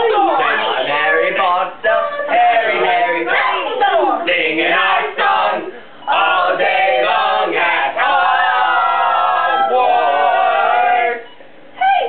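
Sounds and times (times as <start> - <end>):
voices singing unaccompanied: 0.0 - 11.4.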